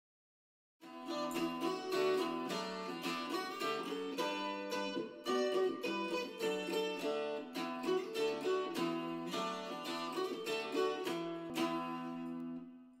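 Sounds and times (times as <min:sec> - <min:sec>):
plucked string music: 0:00.8 - 0:13.0.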